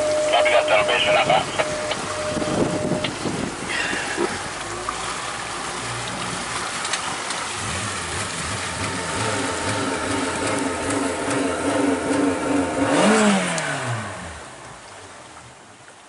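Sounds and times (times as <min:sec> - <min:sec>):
boat engine running: 0:00.0 - 0:15.9.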